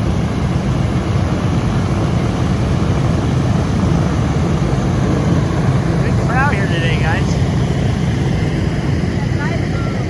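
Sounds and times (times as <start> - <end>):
aircraft engine drone: 0.0 - 10.0.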